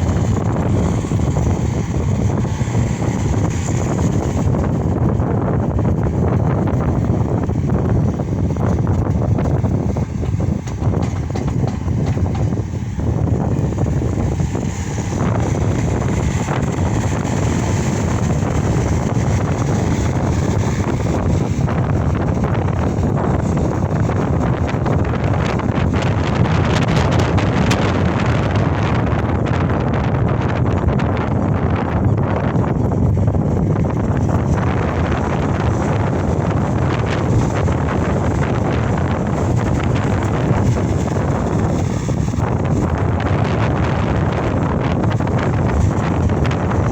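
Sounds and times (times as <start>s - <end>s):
diesel engine running: 0.0s - 46.9s
wind noise on microphone: 0.0s - 46.9s.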